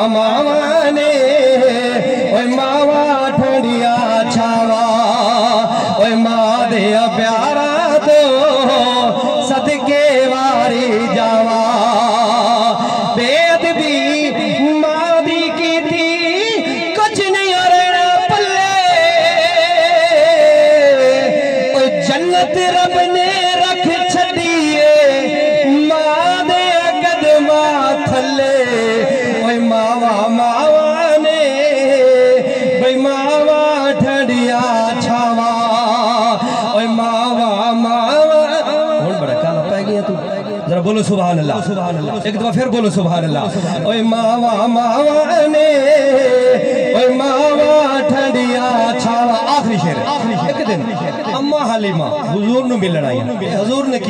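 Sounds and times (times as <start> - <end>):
man singing over loudspeaker: 0.0 - 54.0.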